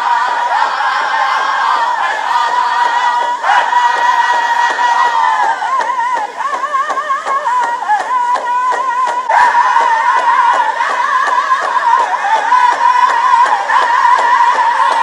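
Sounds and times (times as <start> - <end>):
high voice singing with vibrato: 0.0 - 15.0.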